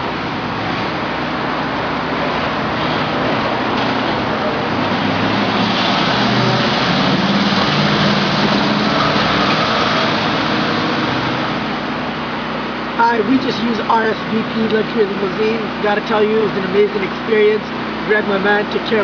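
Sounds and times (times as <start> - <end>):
road noise rush: 0.0 - 19.0.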